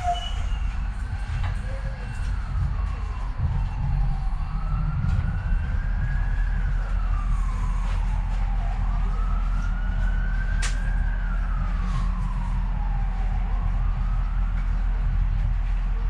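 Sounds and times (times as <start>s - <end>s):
siren wailing: 0.0s - 15.4s
train rumbling: 0.0s - 16.0s.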